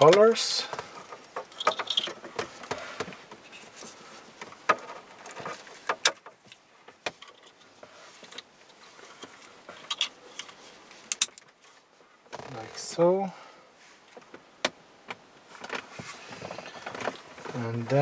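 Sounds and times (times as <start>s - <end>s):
cables rustling: 0.0s - 18.0s.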